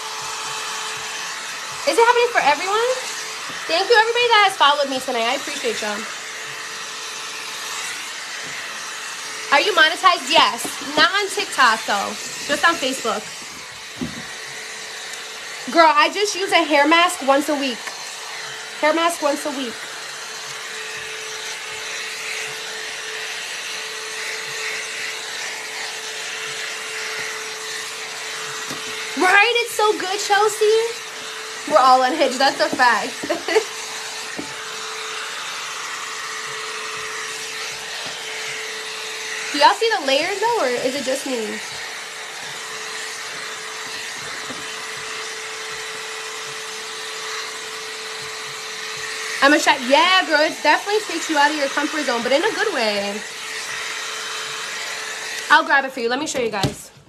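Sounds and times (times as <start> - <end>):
hot-air brush blowing: 0.0 - 57.0.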